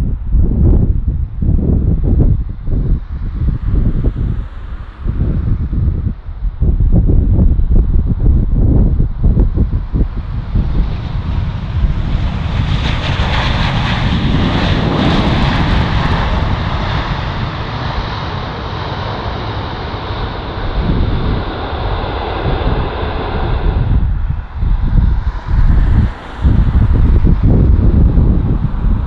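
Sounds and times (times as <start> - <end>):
jet engines roaring: 2.0 - 6.7, 7.9 - 29.0.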